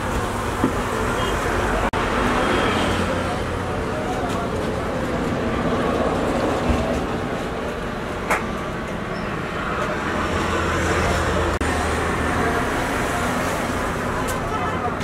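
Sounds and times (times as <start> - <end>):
traffic-like rumble: 0.0 - 15.0.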